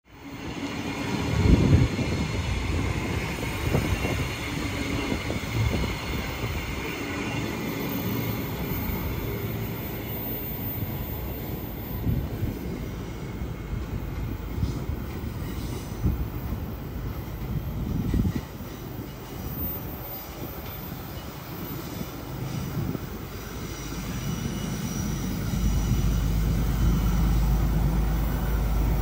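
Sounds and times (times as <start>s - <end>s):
train wheels rumbling on rails: 0.1s - 29.0s.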